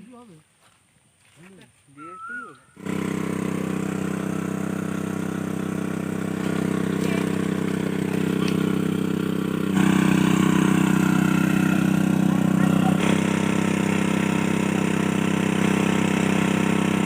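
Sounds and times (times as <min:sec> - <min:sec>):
water pump engine running: 0:02.8 - 0:17.0.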